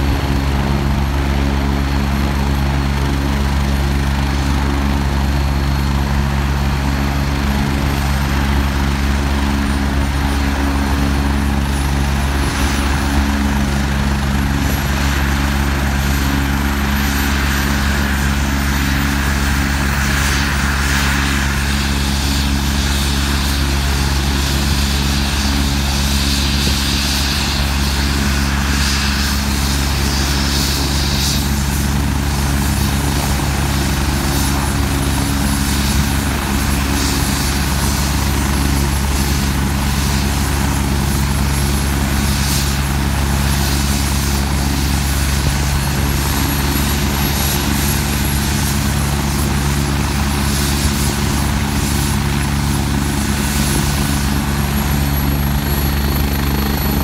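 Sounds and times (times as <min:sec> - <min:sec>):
helicopter rotor beat: 0:00.0 - 0:57.0
turbine noise: 0:00.0 - 0:57.0.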